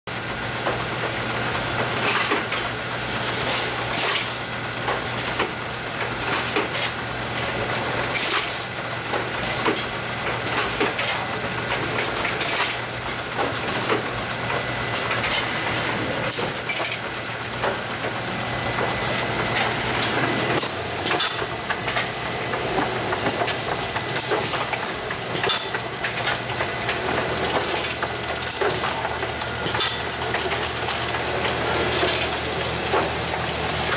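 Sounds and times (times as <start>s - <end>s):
jars clattering on conveyor: 3.3s - 33.9s.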